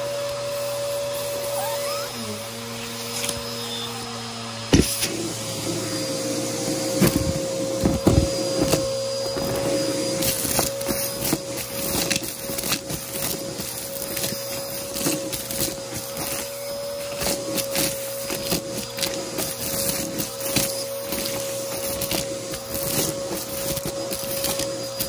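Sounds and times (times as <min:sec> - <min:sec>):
vacuum cleaner motor whine: 0:00.0 - 0:25.0.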